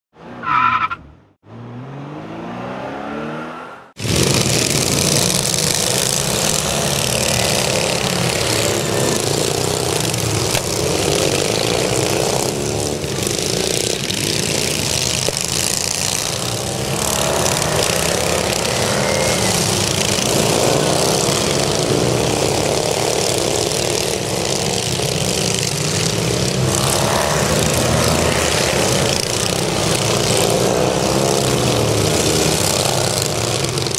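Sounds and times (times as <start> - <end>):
lawn mower engines revving: 0.2 - 33.9.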